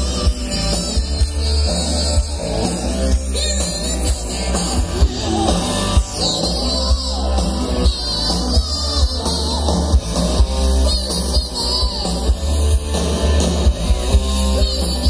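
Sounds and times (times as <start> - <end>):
drums: 0.0 - 15.0
electric guitars: 0.0 - 15.0
heavy bass: 0.0 - 15.0.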